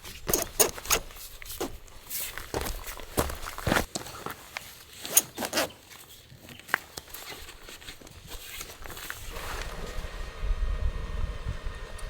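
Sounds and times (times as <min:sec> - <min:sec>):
camp gear ticks and rustles: 0:00.0 - 0:09.7.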